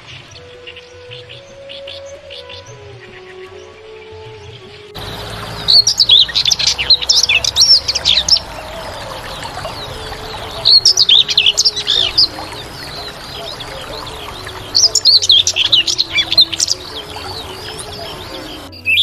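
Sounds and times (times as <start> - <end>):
songbird warbling chirps: 0.0 - 19.0.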